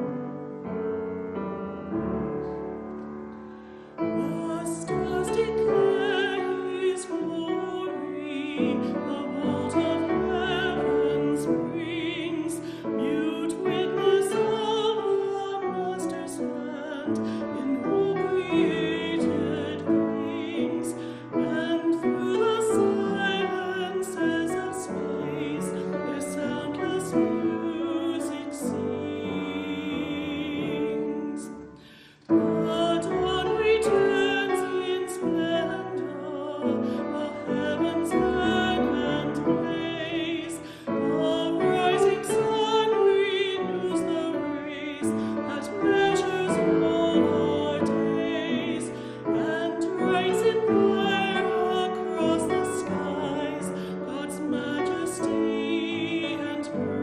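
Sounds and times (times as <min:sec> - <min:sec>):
classical solo singing: 0:00.0 - 0:57.0.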